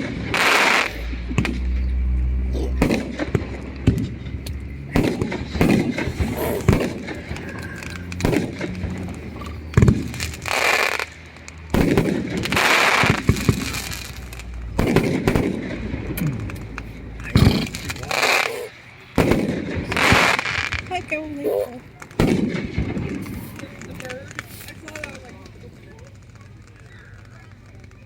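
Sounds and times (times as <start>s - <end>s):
fireworks bangs: 0.0s - 28.0s
hissing crackling fireworks bursts: 0.0s - 28.0s.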